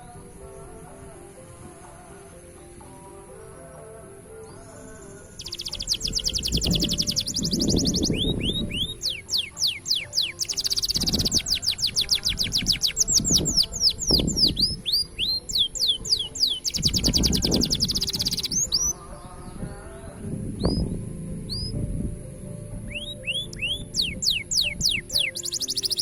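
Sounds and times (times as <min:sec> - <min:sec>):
background music: 0:00.0 - 0:26.0
buzzing trills: 0:00.0 - 0:26.0
canary singing: 0:00.0 - 0:26.0.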